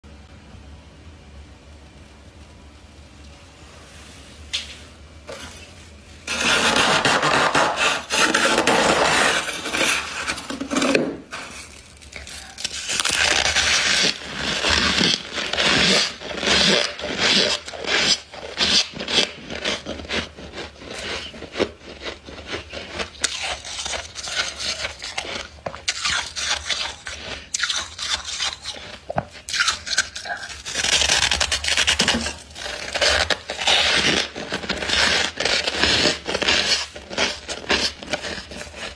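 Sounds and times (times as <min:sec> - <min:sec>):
frost being scraped and crunched: 0:05.3 - 0:38.9.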